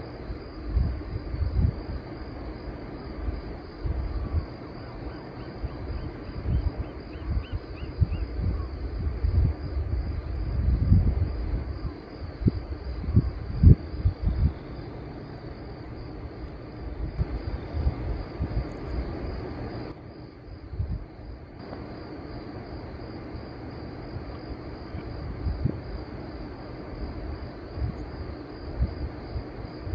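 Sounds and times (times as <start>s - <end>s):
high insect trill: 0.0s - 29.9s
wind rumbling on microphone: 0.0s - 29.9s.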